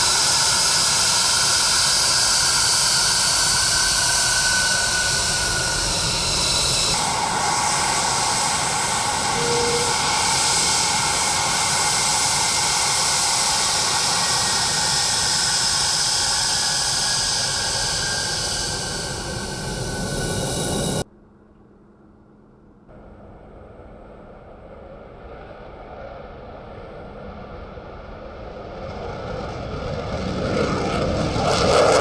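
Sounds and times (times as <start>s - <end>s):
jet engines roaring and whining: 0.0s - 21.1s, 22.9s - 32.0s.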